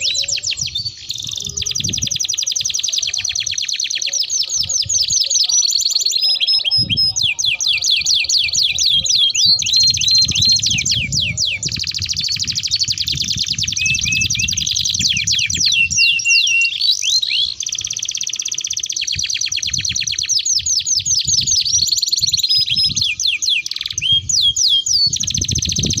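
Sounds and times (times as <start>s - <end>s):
canaries singing trills: 0.0s - 26.0s.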